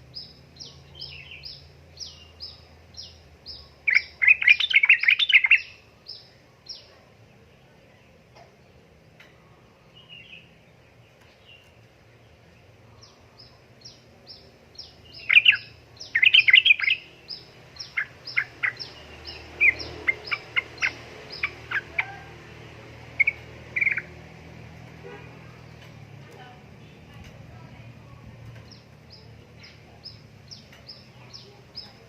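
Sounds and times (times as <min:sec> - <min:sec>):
faint low hum: 0:00.0 - 0:32.0
bird chirping and chattering: 0:00.1 - 0:06.9, 0:12.4 - 0:32.0.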